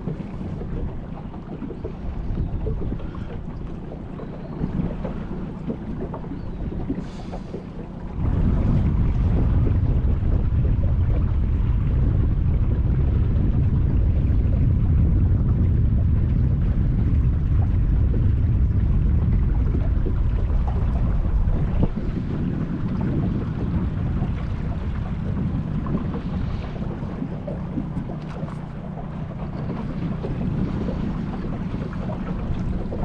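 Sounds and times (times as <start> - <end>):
water noise: 0.0 - 33.0
wind rumbling on microphone: 0.0 - 33.0.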